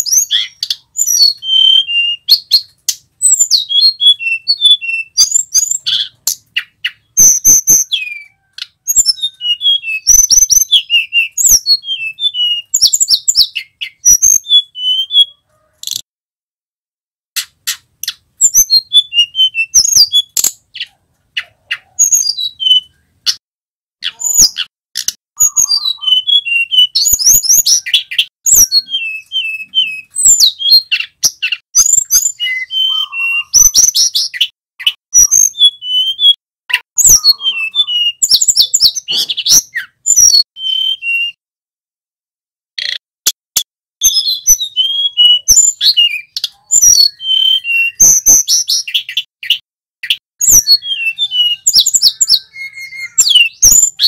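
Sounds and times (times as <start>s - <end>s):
flycatcher singing whistles: 0.0s - 15.4s, 18.0s - 20.5s, 25.4s - 41.4s, 44.0s - 54.0s.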